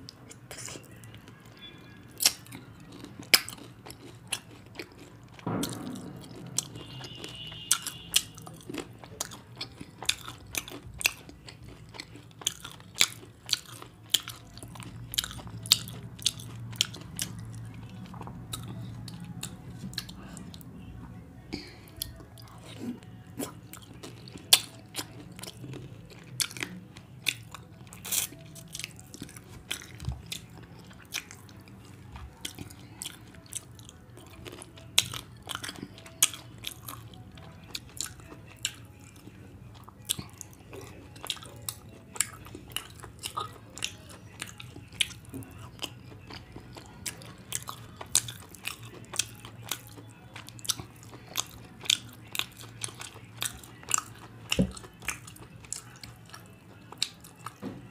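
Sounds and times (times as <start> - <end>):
person chewing food: 0.0 - 20.6, 21.6 - 57.9
faint low hum: 0.0 - 57.9.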